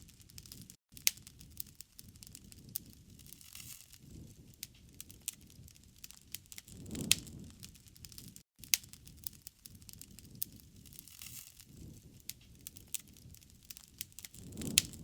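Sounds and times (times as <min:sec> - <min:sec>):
low fire rumble: 0:00.0 - 0:15.0
wood fire popping and snapping: 0:00.0 - 0:15.0.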